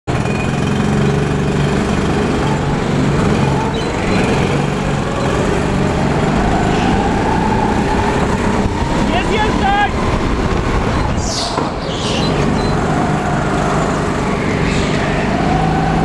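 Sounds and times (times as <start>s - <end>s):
go-kart engines running: 0.1s - 16.0s.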